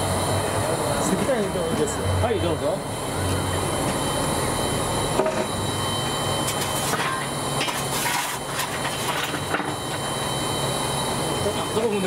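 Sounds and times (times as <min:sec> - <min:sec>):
steam hiss and rumble: 0:00.0 - 0:12.0.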